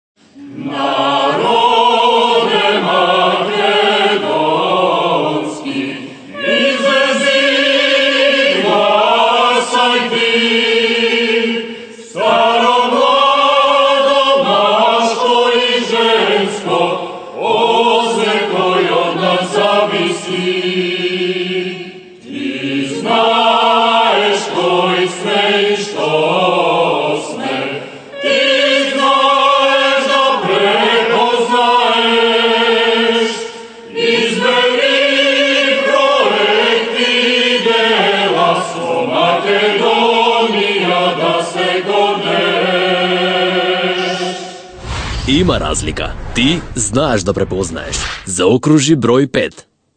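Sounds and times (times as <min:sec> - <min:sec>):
mixed choir singing: 0:00.4 - 0:46.7.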